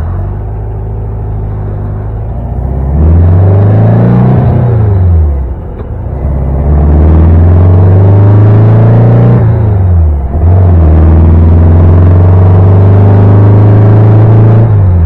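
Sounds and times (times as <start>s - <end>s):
car engine droning under load: 0.0s - 15.0s.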